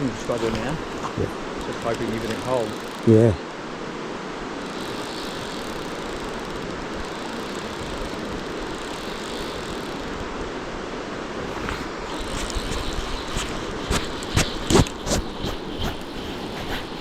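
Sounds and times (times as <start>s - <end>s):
river water flowing over stones: 0.0s - 17.0s.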